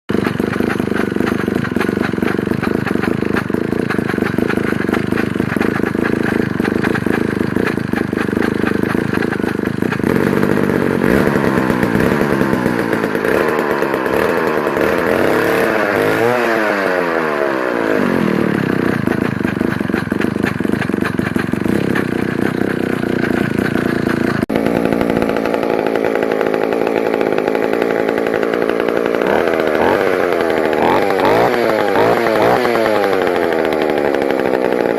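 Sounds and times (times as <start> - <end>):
chainsaw running: 0.1 - 34.9.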